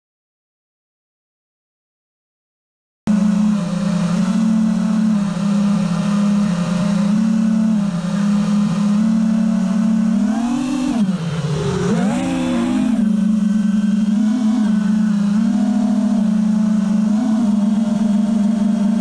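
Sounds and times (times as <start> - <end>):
quadcopter motors whining: 3.1 - 19.0.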